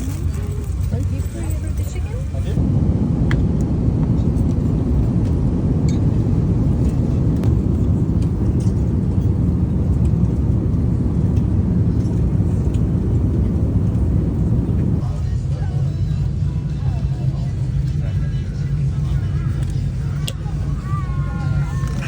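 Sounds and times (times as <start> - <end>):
airliner cabin drone: 0.0 - 22.0.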